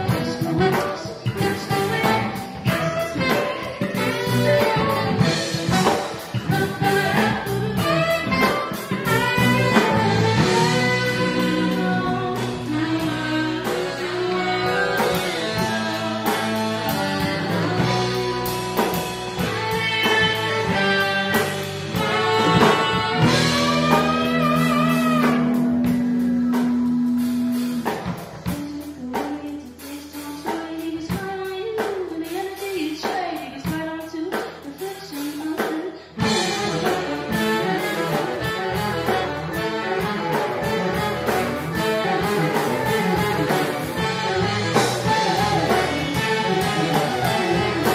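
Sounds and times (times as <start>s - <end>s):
lead singer's voice: 0.0s - 47.9s
live band playing: 0.0s - 47.9s.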